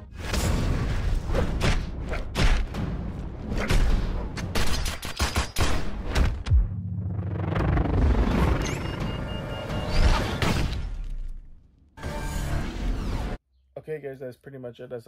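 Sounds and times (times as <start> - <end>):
action soundtrack music: 0.0 - 13.4.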